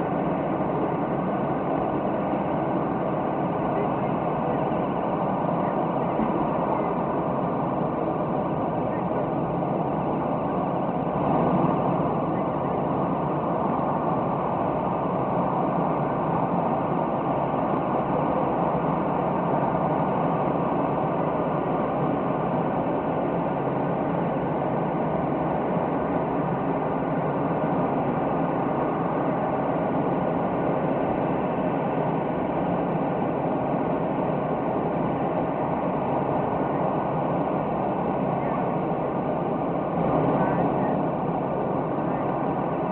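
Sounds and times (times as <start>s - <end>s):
engine drone: 0.0s - 42.9s.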